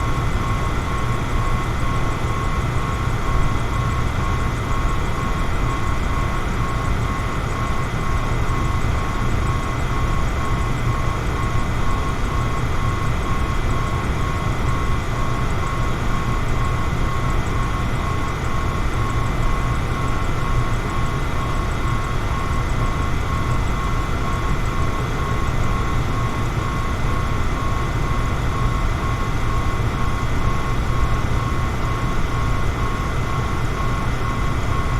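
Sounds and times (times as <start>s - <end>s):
electric fan running: 0.0s - 34.9s.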